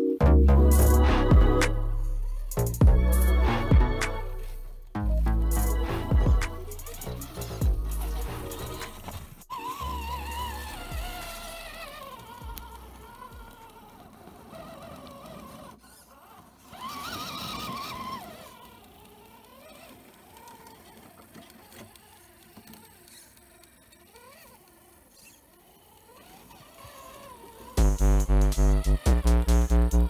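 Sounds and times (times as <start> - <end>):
electric motor and gearbox whining: 0.6 - 30.0.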